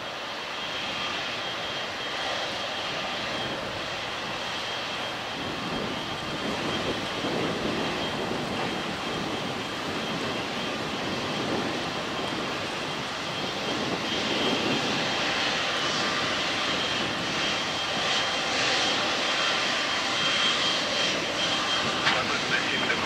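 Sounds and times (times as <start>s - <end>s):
jet engine rush with whine: 0.0s - 23.0s.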